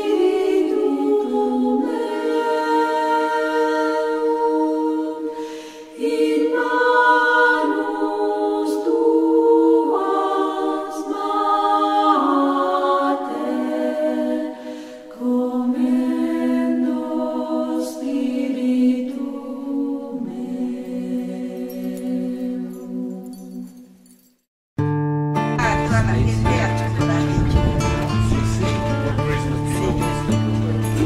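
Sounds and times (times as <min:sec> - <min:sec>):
choir singing: 0:00.0 - 0:23.6, 0:26.6 - 0:31.0.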